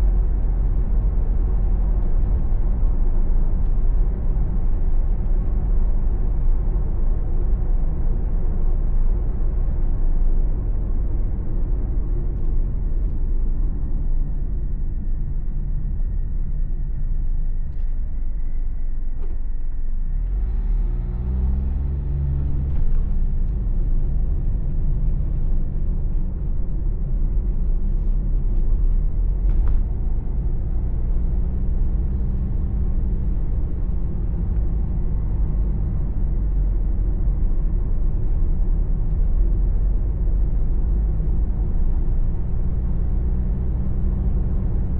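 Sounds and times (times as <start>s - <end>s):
car engine: 0.0s - 44.9s
tyre road noise: 0.0s - 44.9s.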